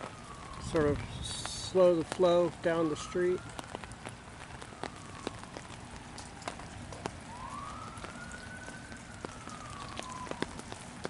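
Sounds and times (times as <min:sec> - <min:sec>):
distant siren wailing: 0:00.0 - 0:11.0
heavy rain falling: 0:00.0 - 0:11.0
raindrops ticking: 0:00.0 - 0:11.0.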